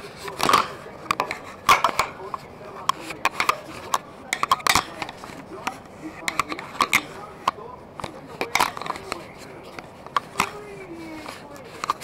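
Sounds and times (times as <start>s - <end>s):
handling clicks and knocks: 0.0s - 12.0s
objects clattering: 0.0s - 12.0s.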